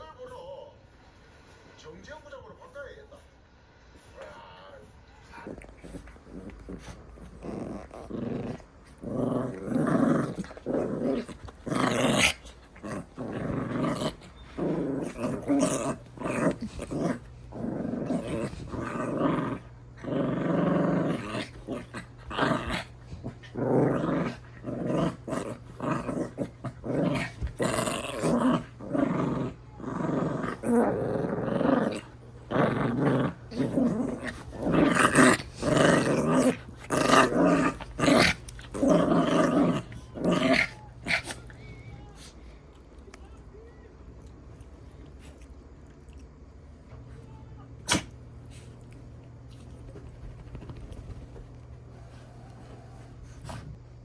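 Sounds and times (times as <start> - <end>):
dogs growling in play: 5.2 - 43.0, 47.8 - 54.0.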